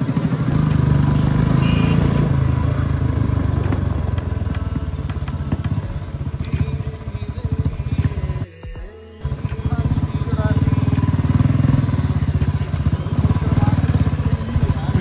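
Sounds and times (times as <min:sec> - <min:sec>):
motorcycle engine running loudly: 0:00.0 - 0:08.5, 0:09.2 - 0:15.0.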